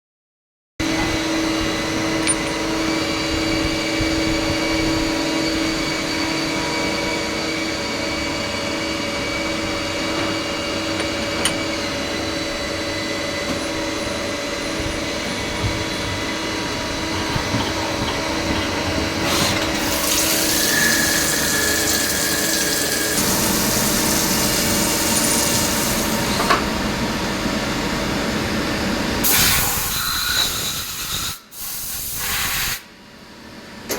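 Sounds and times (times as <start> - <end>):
machine hum with whining tones: 0.8 - 31.5.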